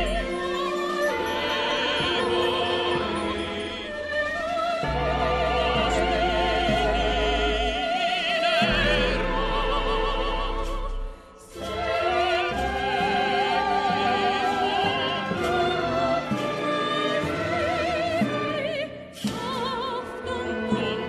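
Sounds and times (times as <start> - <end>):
operatic singing with vibrato: 0.0 - 21.0
orchestral accompaniment: 0.0 - 21.0.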